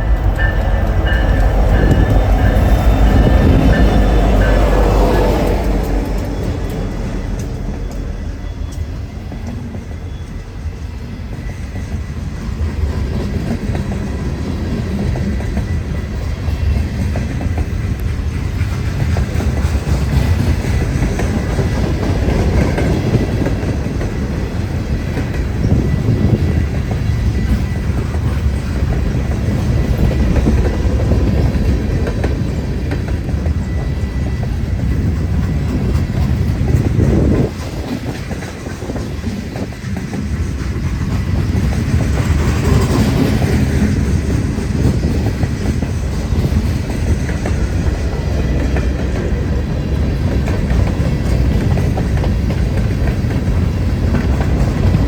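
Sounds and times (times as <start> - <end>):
clickety-clack over rail joints: 0.0 - 55.0
wheels rumbling on rail: 0.0 - 55.0.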